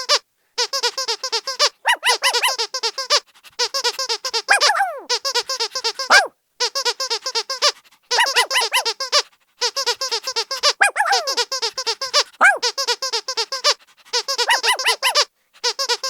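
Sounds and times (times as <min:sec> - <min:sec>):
squeaky dog toy squeaking: 0:00.0 - 0:16.0.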